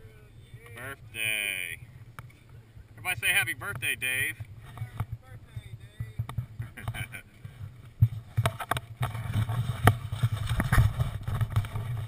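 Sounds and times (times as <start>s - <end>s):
camera microphone rumbling and knocking: 0.0s - 12.0s.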